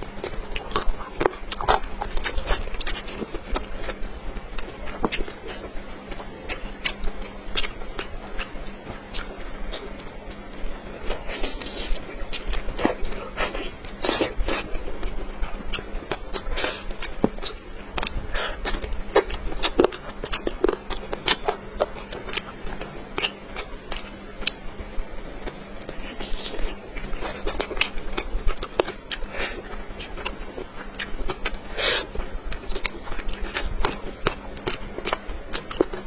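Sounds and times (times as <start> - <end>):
wet chewing and smacking: 0.0 - 36.0.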